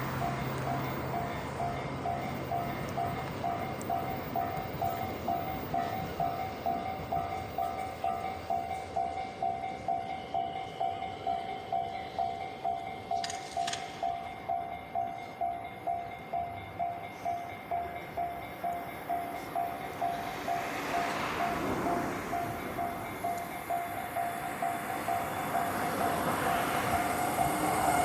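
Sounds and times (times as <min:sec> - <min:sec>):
level-crossing warning bell: 0:00.0 - 0:28.0
passing train: 0:00.0 - 0:28.0.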